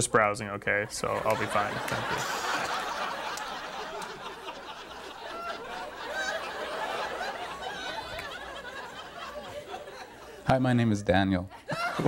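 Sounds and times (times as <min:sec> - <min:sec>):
people laughing and chuckling: 0:01.0 - 0:10.5, 0:11.5 - 0:12.0.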